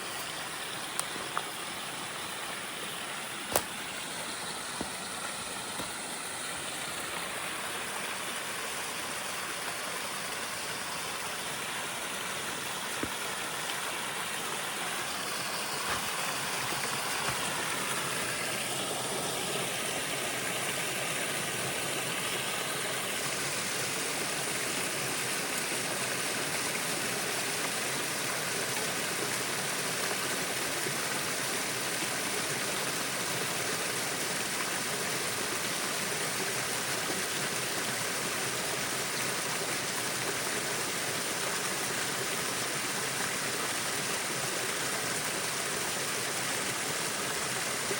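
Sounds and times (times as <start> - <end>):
stream water flowing: 0.0 - 47.9.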